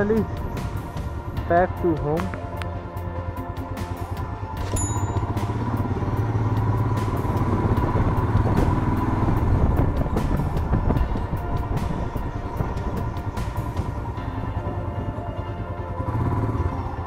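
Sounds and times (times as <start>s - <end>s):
motorcycle engine running: 3.0s - 17.0s.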